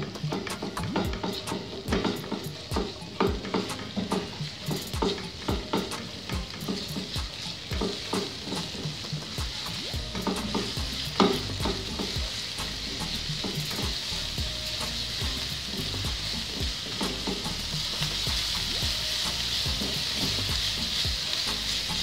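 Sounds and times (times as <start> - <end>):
garlic sizzling in oil: 0.0 - 22.0
spatula tapping and scraping pan: 0.0 - 22.0.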